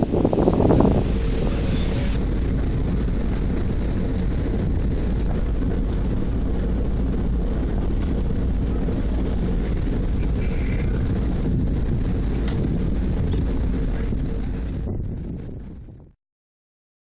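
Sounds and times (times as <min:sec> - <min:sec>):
wind buffeting microphone: 0:00.0 - 0:16.2.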